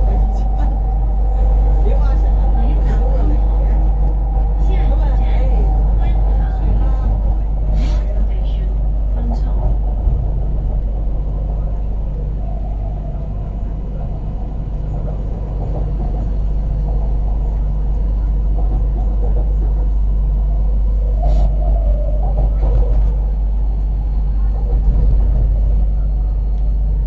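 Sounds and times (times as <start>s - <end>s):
train rumbling underway: 0.0s - 27.0s.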